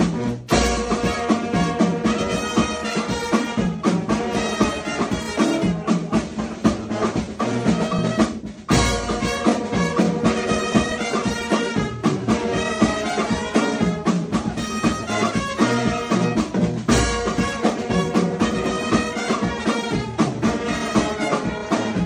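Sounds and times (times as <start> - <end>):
music with brass and drums: 0.0 - 22.0.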